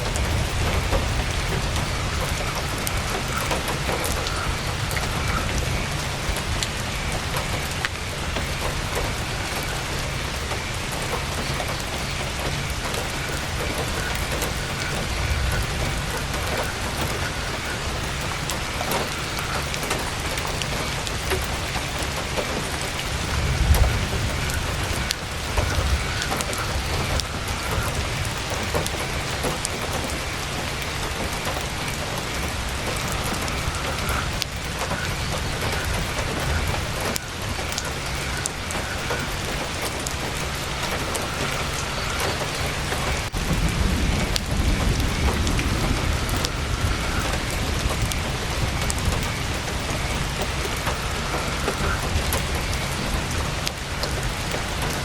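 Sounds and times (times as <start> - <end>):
heavy rain on tent fabric: 0.0 - 55.0.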